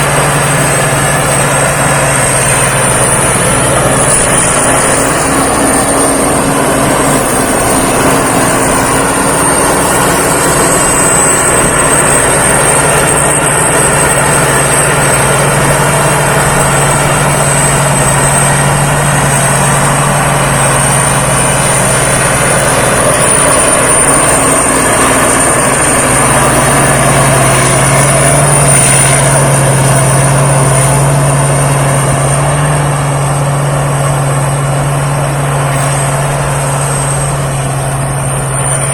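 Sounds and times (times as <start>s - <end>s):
combine harvester engine hum: 0.0s - 38.9s
high thin whine: 0.0s - 38.9s.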